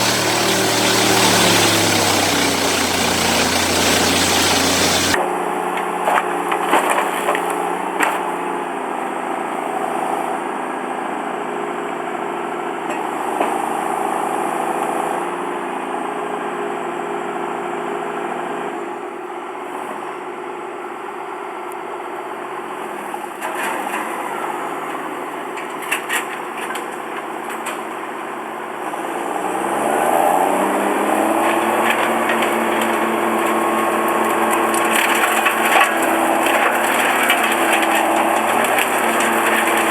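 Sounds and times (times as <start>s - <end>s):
wood chipper engine running: 0.0s - 17.3s, 22.5s - 39.9s.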